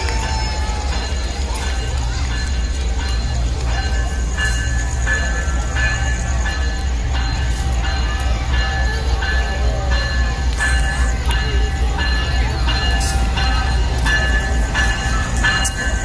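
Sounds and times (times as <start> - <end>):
locomotive engine rumbling: 0.0 - 16.0.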